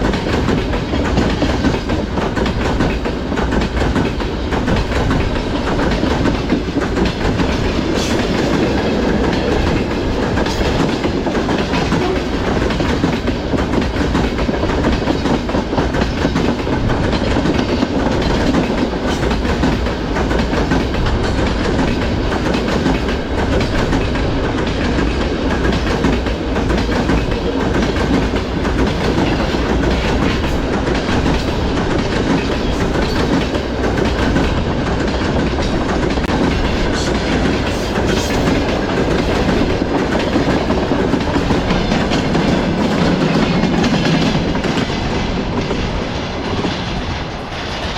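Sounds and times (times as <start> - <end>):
train wheels clattering over rails: 0.0 - 47.9.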